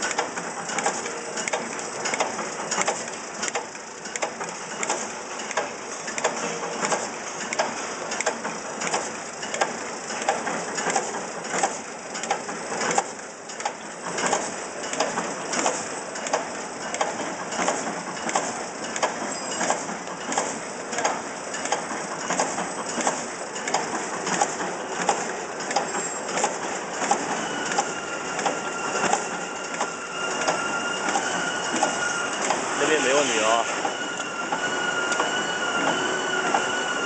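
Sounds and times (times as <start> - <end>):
packing machine clatter: 0.0 - 37.0.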